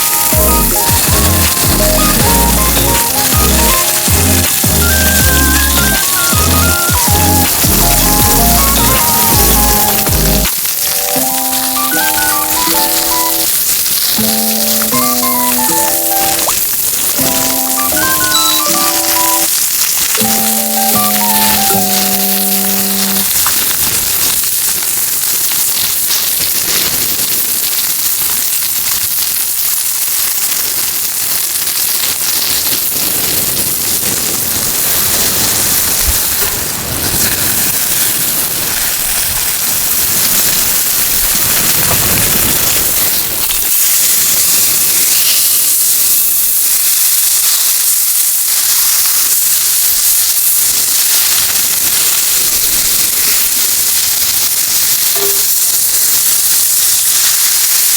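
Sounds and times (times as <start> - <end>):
food sizzling in frying pan: 0.0 - 57.9
faint crackles: 5.6 - 57.9.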